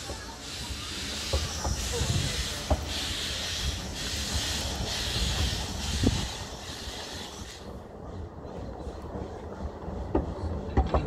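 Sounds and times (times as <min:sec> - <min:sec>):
pulsing steam hiss: 0:00.0 - 0:09.7
train coaches rumbling: 0:00.0 - 0:11.0.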